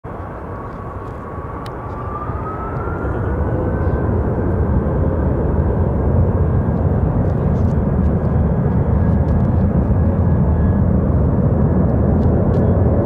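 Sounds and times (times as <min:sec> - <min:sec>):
jet engines rumbling: 0:00.1 - 0:13.0.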